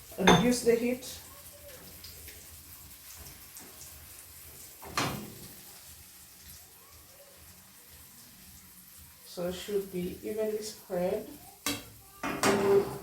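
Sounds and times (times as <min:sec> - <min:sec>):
egg sizzling in a frying pan: 0:00.0 - 0:13.0.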